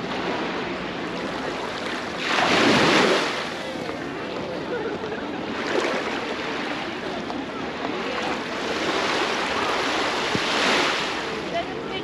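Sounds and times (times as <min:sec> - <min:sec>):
sea waves breaking on shore: 0:00.0 - 0:04.4, 0:05.4 - 0:12.0.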